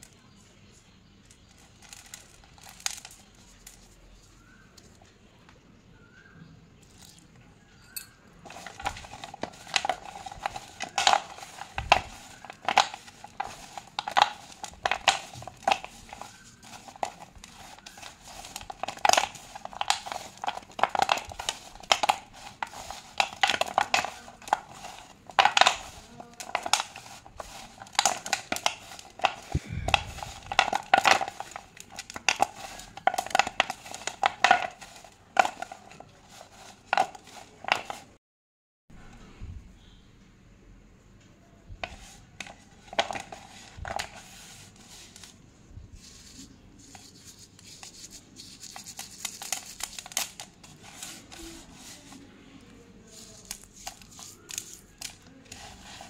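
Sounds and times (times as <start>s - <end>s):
slate pencils snapping and crunching: 1.2s - 5.0s, 8.4s - 38.2s, 41.8s - 45.4s, 46.0s - 56.0s.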